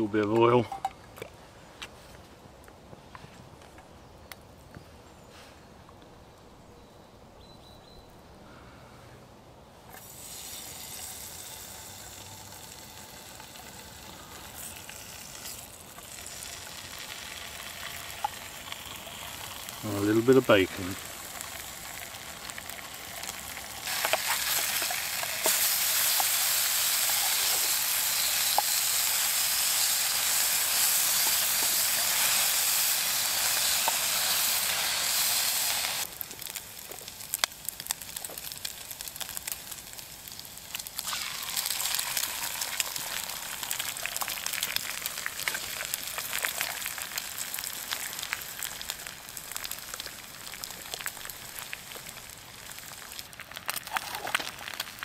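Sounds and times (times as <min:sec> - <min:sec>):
bacon sizzling in frying pan: 0:10.0 - 0:55.0.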